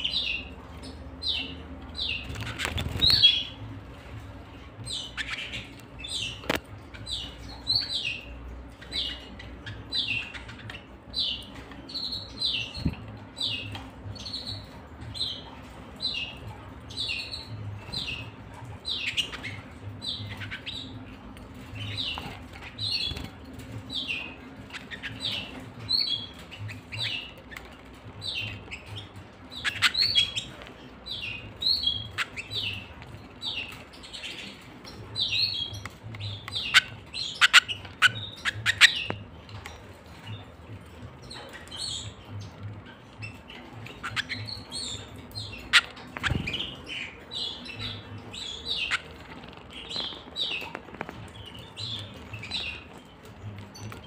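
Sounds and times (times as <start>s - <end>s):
canaries chirping: 0.0s - 54.0s.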